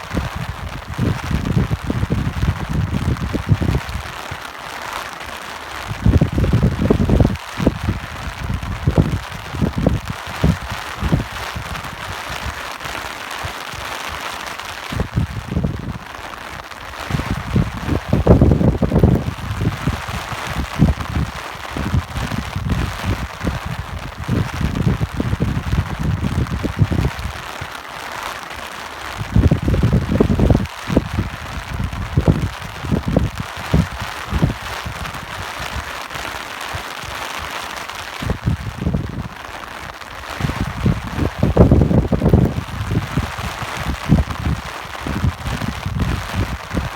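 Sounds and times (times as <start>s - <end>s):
wind gusts on microphone: 0.0s - 27.8s, 28.6s - 46.9s
steady rain hiss: 0.0s - 46.9s.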